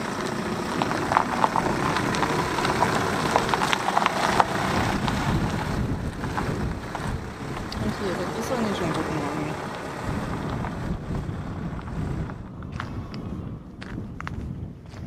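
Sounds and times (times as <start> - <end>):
van driving past: 0.0 - 14.4
wind buffeting microphone: 0.0 - 15.0.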